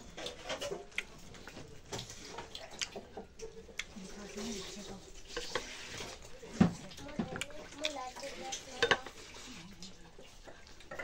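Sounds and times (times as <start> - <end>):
fingers mixing food on plate: 0.1 - 11.0.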